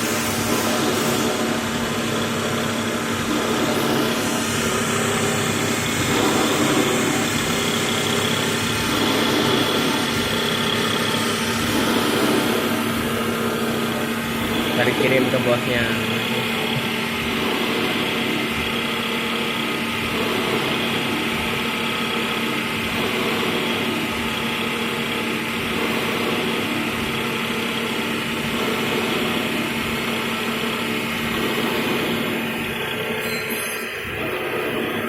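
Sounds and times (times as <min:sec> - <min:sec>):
milling machine humming and whining: 0:00.0 - 0:35.0.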